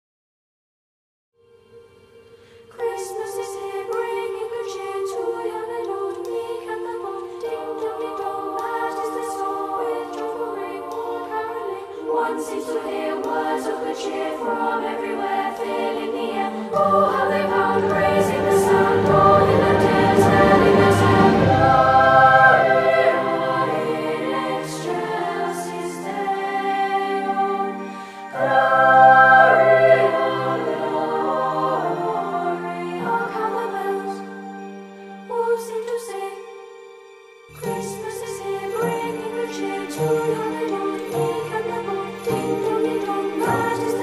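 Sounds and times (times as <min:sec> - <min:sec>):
choir singing in harmony: 0:01.7 - 0:44.0.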